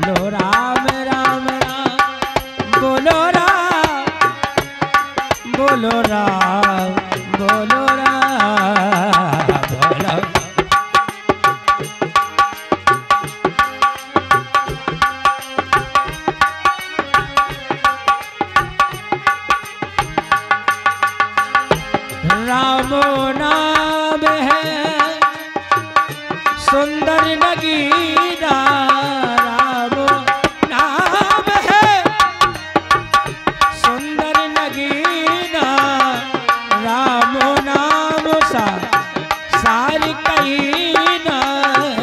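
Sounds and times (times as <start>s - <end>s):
hand drum beating: 0.0s - 42.0s.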